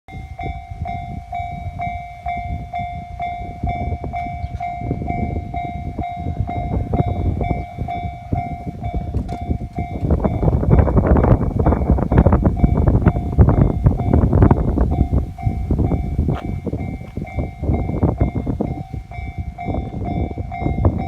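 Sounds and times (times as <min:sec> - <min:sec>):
level-crossing warning bell: 0:00.1 - 0:21.0
passing train rumble and clatter: 0:00.1 - 0:21.0.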